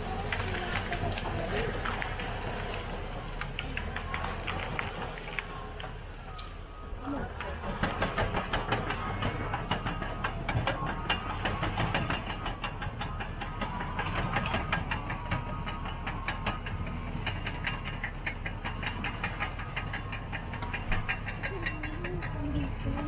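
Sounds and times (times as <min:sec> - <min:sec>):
diesel engine under load: 0:00.0 - 0:23.0
steel tracks clattering: 0:00.0 - 0:23.0.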